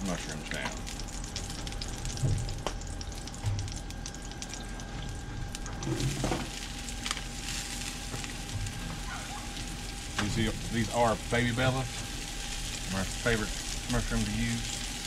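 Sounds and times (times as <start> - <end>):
oil sizzling on a griddle: 0.0 - 15.0.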